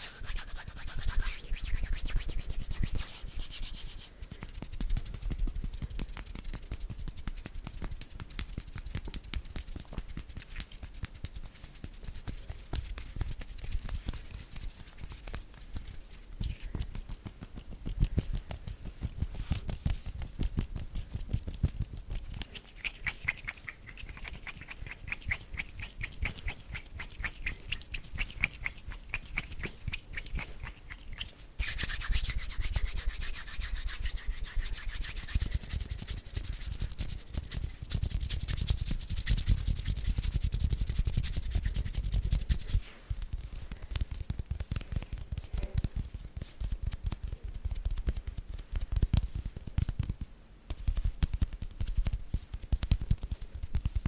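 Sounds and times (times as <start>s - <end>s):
bare hands rubbing together: 0.0s - 54.0s.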